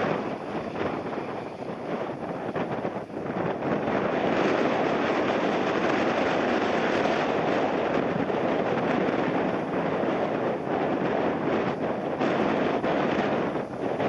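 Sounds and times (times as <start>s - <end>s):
jet engine roaring: 0.0s - 14.0s
wind buffeting microphone: 0.0s - 14.0s.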